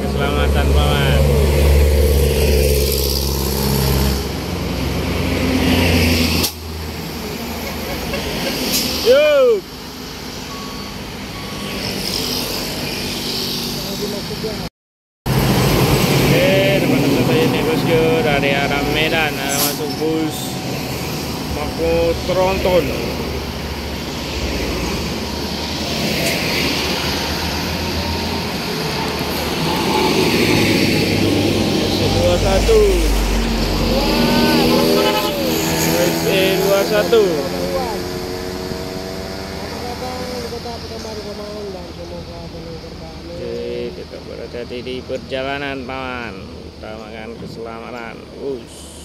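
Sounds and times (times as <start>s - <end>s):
heavy diesel traffic engine drone: 0.0s - 14.7s, 15.3s - 49.0s
quieter traffic noise: 0.0s - 14.7s, 15.3s - 49.0s.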